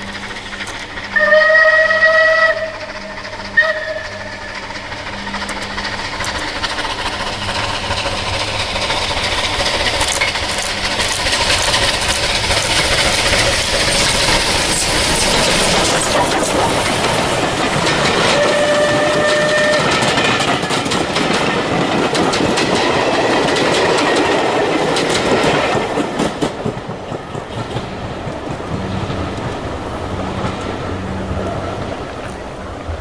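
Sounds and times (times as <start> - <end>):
train wheels clattering over rails: 0.0 - 33.0.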